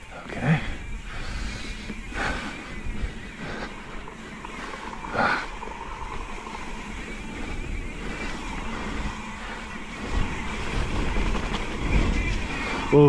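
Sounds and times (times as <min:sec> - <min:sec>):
bike tyres on wet dirt: 0:00.0 - 0:13.0
wind rumble on microphone: 0:00.0 - 0:13.0.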